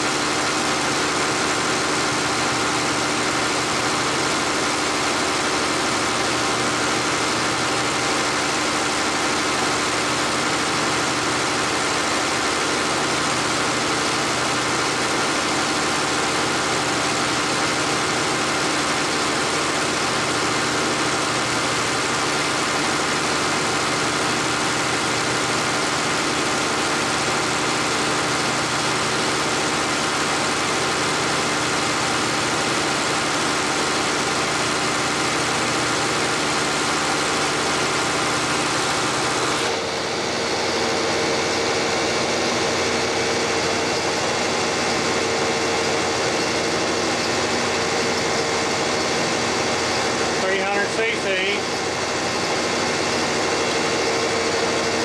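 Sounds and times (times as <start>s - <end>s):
test stand machine drone: 0.0s - 55.0s.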